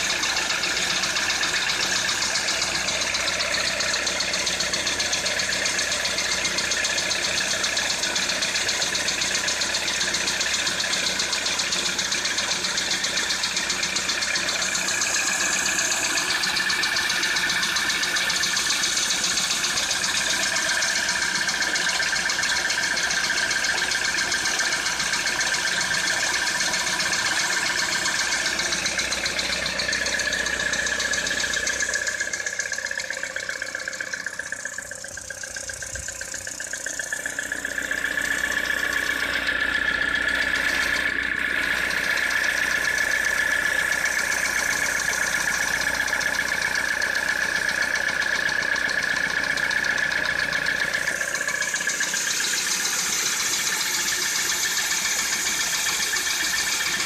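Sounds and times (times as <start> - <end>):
car engine idling with knock: 0.0 - 57.0.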